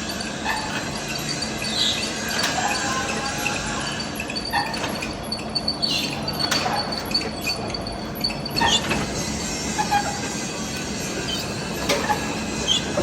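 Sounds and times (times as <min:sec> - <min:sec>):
metallic clinks and squeals: 0:00.0 - 0:13.0.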